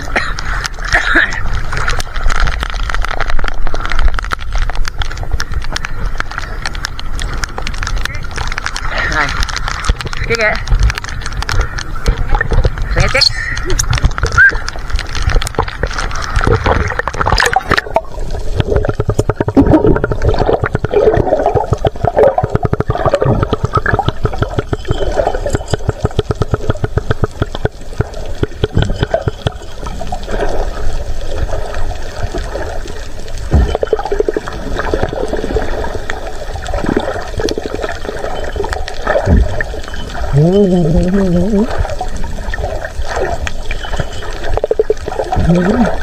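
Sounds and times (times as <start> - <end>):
muffled underwater rushing and bubbling: 0.0 - 46.0
water splashing and gurgling: 0.0 - 46.0.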